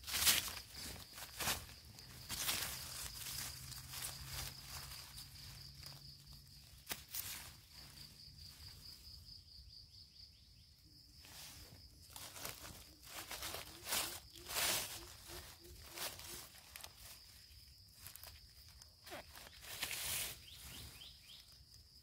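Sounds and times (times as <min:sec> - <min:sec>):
dry leaves rustling: 0:00.0 - 0:09.4, 0:11.1 - 0:21.8
insect chirping: 0:00.0 - 0:22.0.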